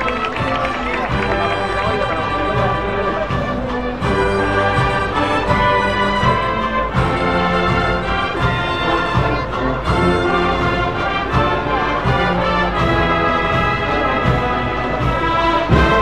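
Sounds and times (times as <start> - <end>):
brass band playing a march: 0.0 - 16.0.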